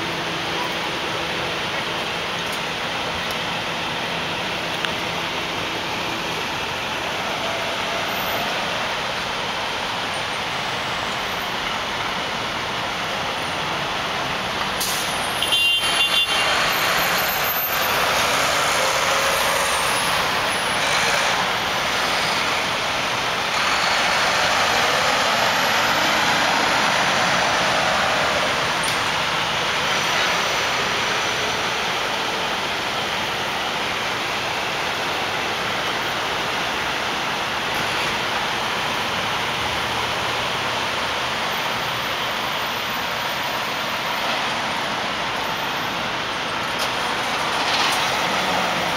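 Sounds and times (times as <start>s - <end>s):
city street traffic rumble: 0.0s - 48.9s
truck: 0.0s - 48.9s.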